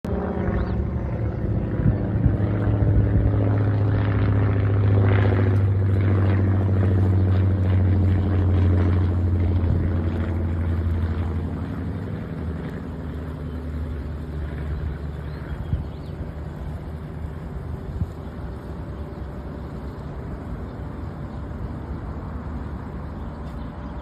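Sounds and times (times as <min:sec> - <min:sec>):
propeller plane droning overhead: 0:00.0 - 0:24.0.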